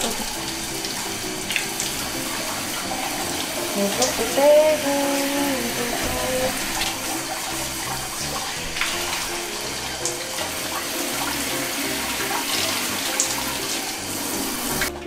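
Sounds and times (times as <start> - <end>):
light background music: 0.0 - 15.0
shower head spraying water: 0.0 - 15.0.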